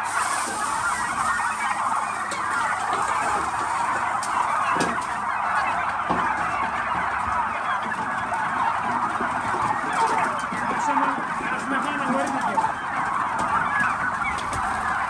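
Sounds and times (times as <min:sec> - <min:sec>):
flock of turkeys calling: 0:00.0 - 0:15.0.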